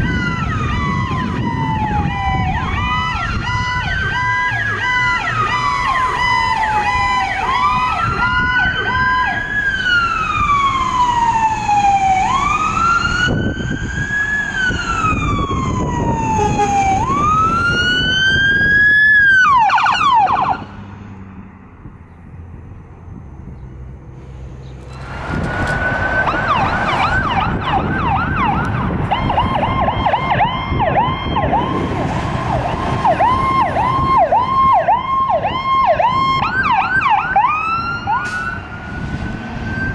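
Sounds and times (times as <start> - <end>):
siren wail: 0.0 - 20.8, 24.9 - 39.9
siren yelp: 0.0 - 20.8, 25.3 - 39.9.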